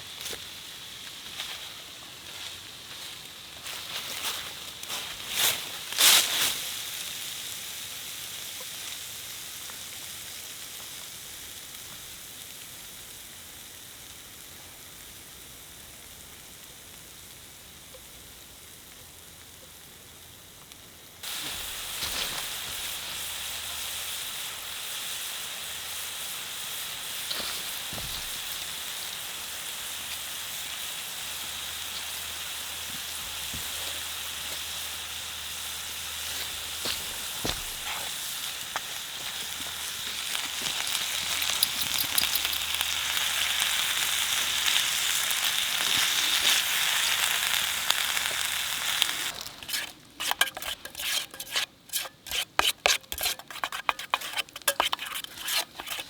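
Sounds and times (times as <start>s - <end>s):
steady hiss: 0.0s - 52.9s.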